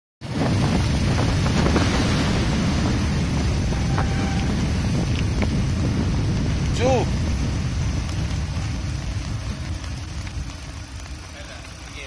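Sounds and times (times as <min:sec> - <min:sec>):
wind buffeting microphone: 0:00.2 - 0:12.0.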